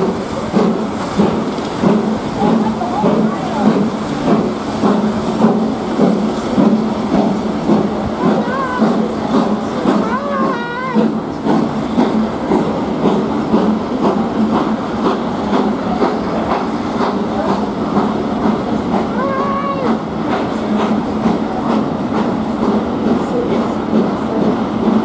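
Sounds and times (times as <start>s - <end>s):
train coaches rumbling: 0.0s - 25.0s.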